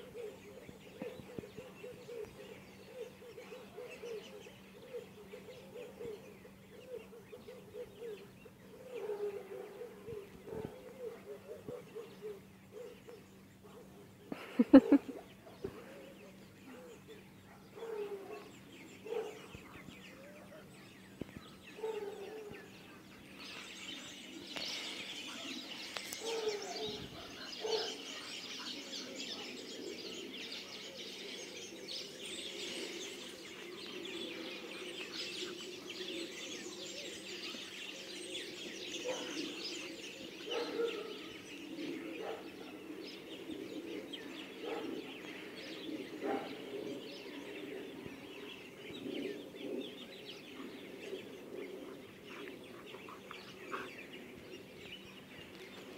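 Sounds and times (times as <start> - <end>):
low clucking bird calls: 0.0 - 55.9.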